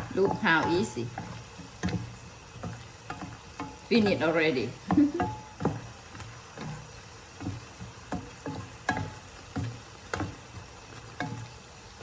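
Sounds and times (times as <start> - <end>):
food sizzling: 0.0 - 12.0
spatula scraping a frying pan: 0.0 - 12.0.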